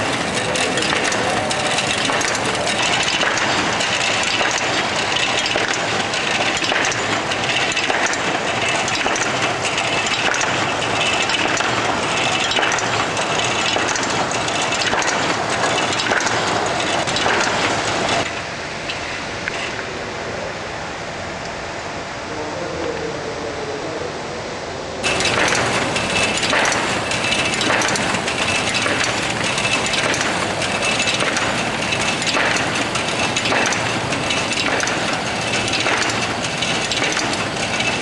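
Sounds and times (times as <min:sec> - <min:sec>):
machine clattering with clicks: 0:00.0 - 0:19.9, 0:25.0 - 0:38.0.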